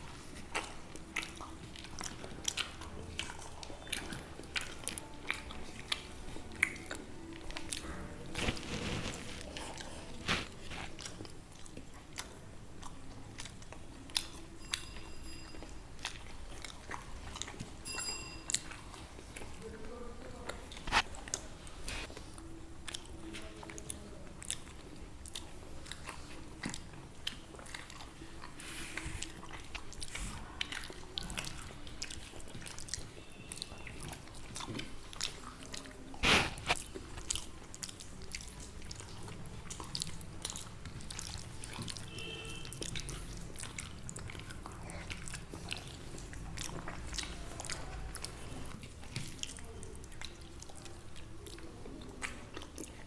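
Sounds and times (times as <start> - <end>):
chewing crunchy food: 0.0 - 53.0.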